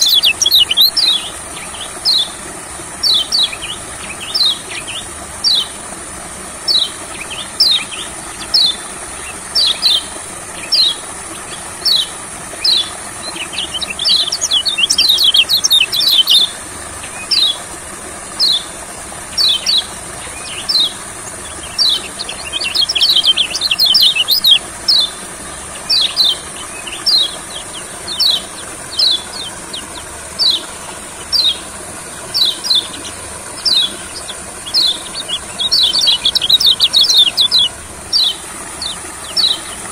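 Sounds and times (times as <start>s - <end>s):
bird chirping and twittering: 0.0s - 5.8s, 6.6s - 17.7s, 18.3s - 18.7s, 19.3s - 39.9s.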